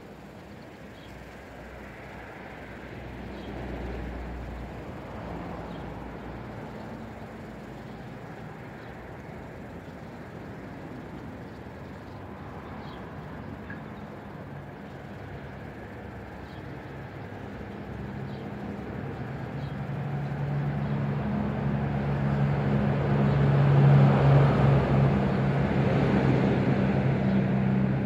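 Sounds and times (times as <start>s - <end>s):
engine hum: 0.0s - 28.0s.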